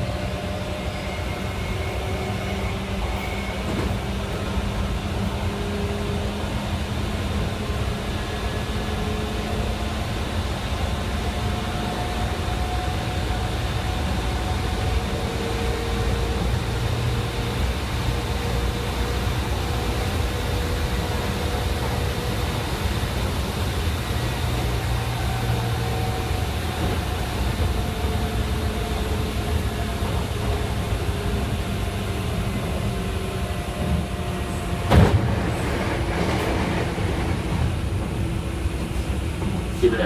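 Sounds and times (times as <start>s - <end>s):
electric train running rumble: 0.0s - 40.0s.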